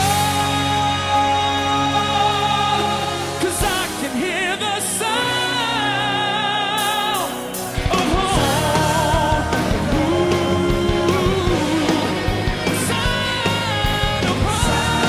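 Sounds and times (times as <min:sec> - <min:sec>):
lead melody with wide vibrato: 0:00.0 - 0:15.0
rock band playing live: 0:00.0 - 0:15.0.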